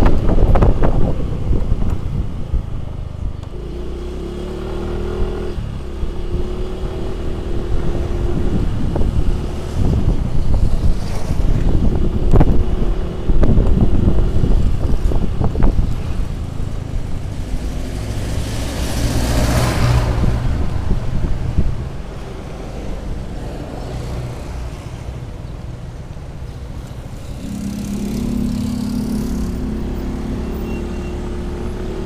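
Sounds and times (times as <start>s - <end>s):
passing traffic: 0.0s - 32.0s.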